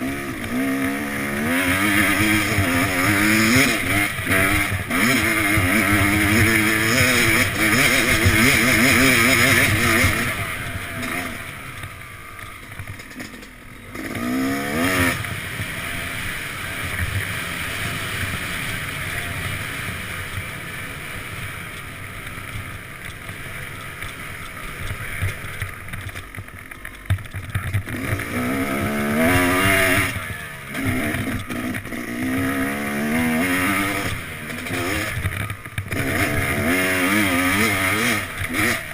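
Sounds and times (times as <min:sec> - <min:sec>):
dirt bike engine revving: 0:00.0 - 0:26.2, 0:27.2 - 0:38.9.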